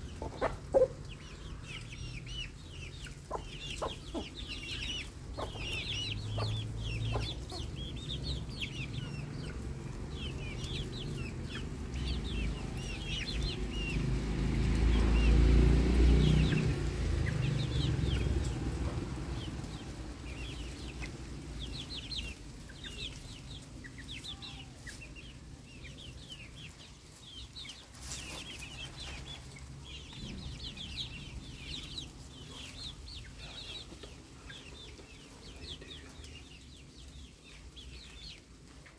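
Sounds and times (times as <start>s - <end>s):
chickens clucking: 0.0s - 38.9s
chicks cheeping: 0.0s - 38.9s.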